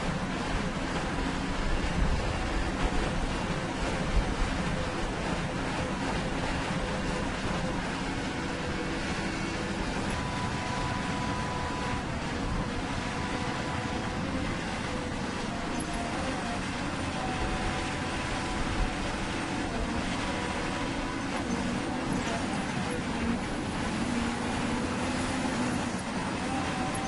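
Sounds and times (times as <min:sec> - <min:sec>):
hydraulic pump whining: 0:00.0 - 0:27.0.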